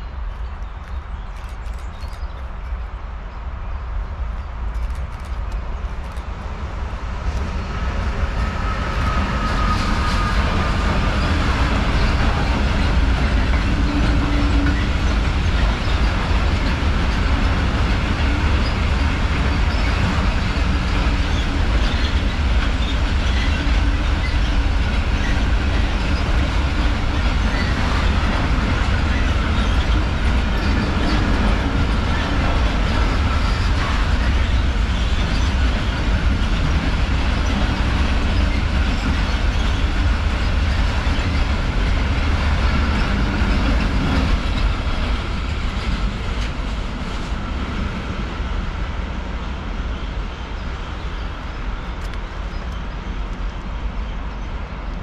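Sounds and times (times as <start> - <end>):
train wheels rumbling and clattering: 0.0 - 55.0.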